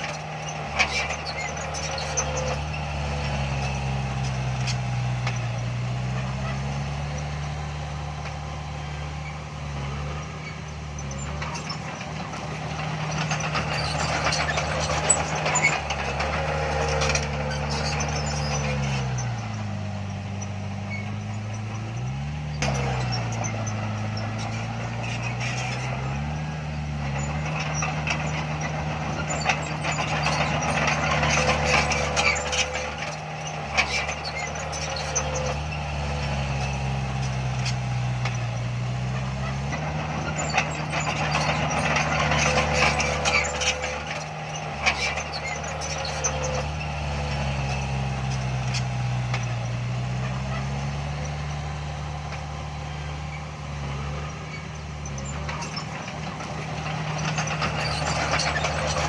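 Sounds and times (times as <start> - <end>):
heavy diesel machinery engine: 0.0 - 59.0.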